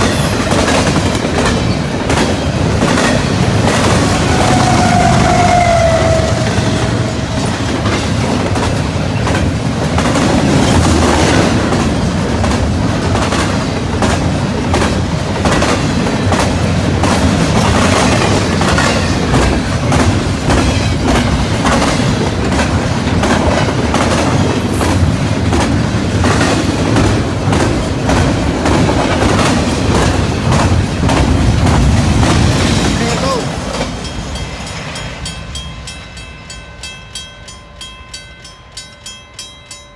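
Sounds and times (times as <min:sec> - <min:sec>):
freight train rumble: 0:00.0 - 0:39.9
wheels clickety-clack on rails: 0:00.0 - 0:39.9.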